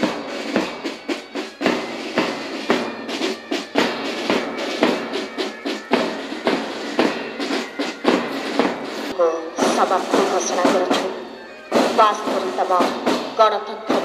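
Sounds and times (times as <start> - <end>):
march music with drums: 0.0 - 14.0.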